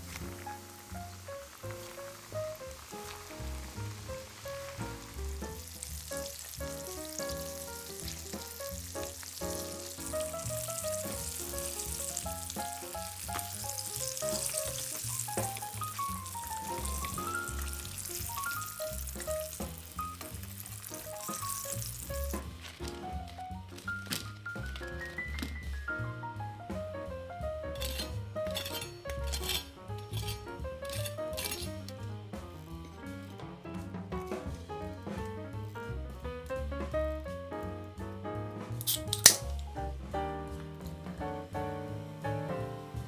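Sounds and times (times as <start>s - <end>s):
chicken deep-frying in oil: 0.0s - 26.1s, 27.0s - 37.8s, 38.4s - 43.0s
light background music: 0.0s - 43.0s.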